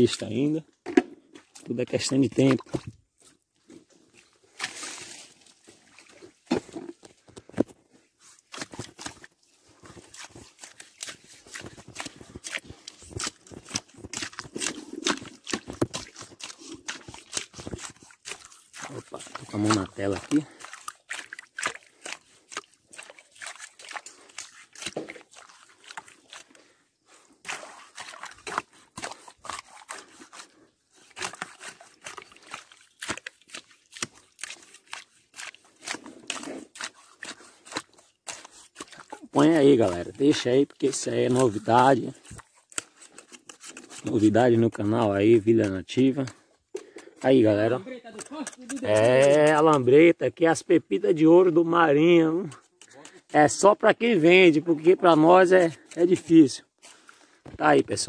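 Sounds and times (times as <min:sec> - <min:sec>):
wet mud crackling and popping: 0:00.8 - 0:58.0.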